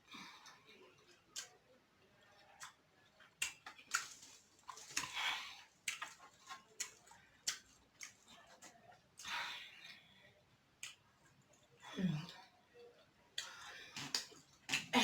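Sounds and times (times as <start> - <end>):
chewing: 0.4 - 1.6, 2.2 - 10.1, 10.8 - 15.0.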